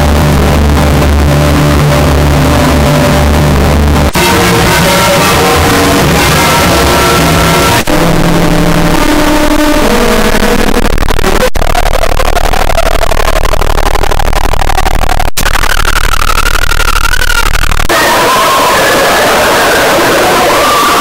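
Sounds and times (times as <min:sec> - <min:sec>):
distorted music jingle: 0:00.0 - 0:21.0.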